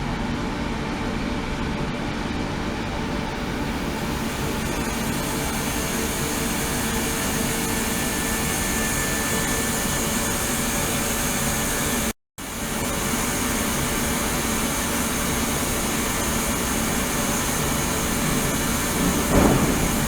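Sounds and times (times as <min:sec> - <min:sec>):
machine hum and hiss: 0:00.0 - 0:20.0.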